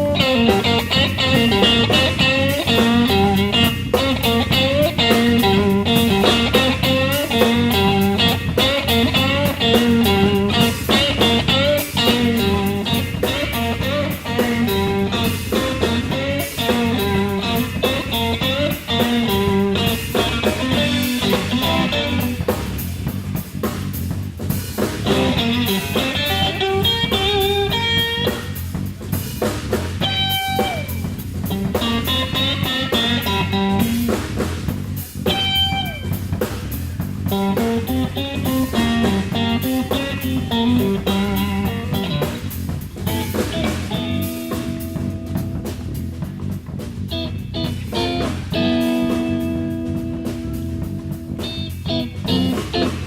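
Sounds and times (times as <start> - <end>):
bent lead guitar notes: 0.0 - 24.0, 24.8 - 28.8, 29.9 - 53.0
electric guitar riff: 0.0 - 24.0, 24.8 - 28.8, 29.8 - 53.0
bass guitar: 0.0 - 53.0
drum kit: 0.0 - 53.0.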